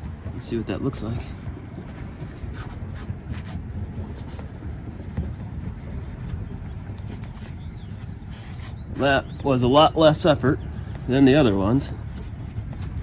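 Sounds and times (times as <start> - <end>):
rag rubbing on metal: 1.0 - 10.3, 11.2 - 13.0.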